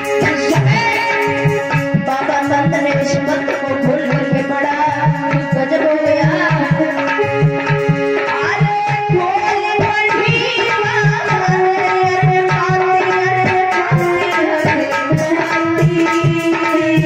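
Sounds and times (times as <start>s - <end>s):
hand drums playing: 0.0s - 17.0s
woman singing into a microphone: 0.0s - 17.0s.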